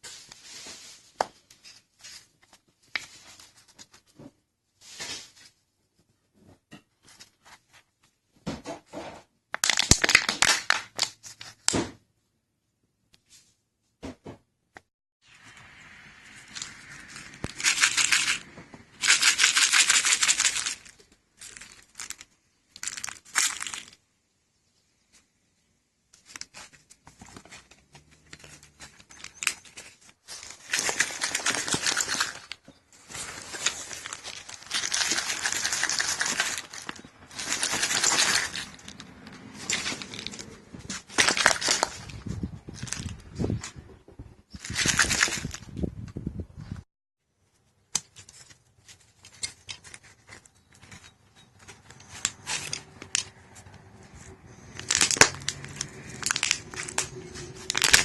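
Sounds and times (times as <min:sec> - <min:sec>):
crinkling handling noise: 0:00.0 - 0:11.8, 0:16.3 - 0:24.1, 0:26.1 - 0:43.8, 0:44.5 - 0:45.9, 0:47.4 - 0:58.0.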